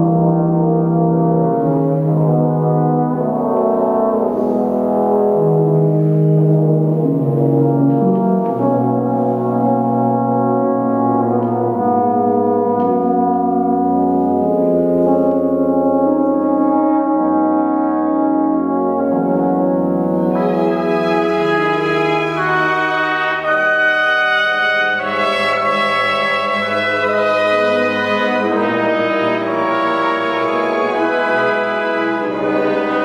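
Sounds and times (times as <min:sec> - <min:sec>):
orchestra playing slow sustained chords: 0:00.0 - 0:33.0.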